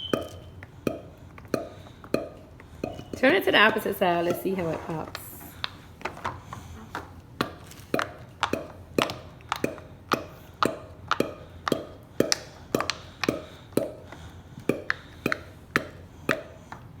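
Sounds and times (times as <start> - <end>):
pop-it toy bubbles popping: 0.0 - 4.4, 7.4 - 16.9.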